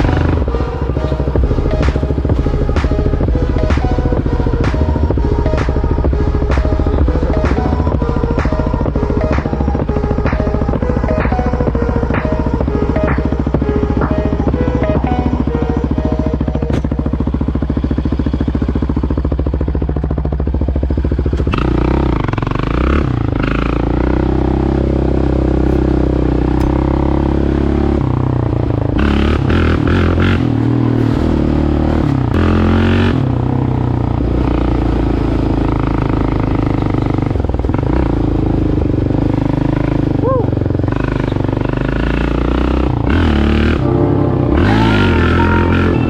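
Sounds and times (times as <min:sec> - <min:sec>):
atv engine revving: 0:00.0 - 0:46.0.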